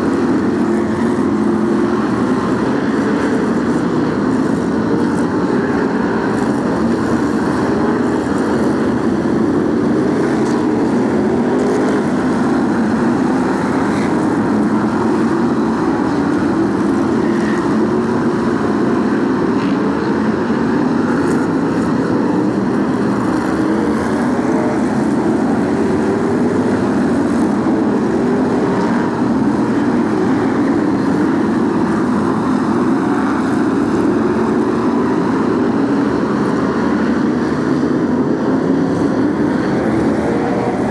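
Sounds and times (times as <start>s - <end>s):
racing car engines droning: 0.0s - 40.9s.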